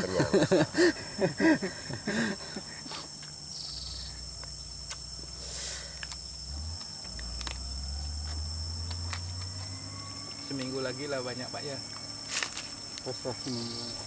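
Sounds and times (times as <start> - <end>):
insects droning: 0.0 - 14.0
pulsing chirp: 0.0 - 14.0.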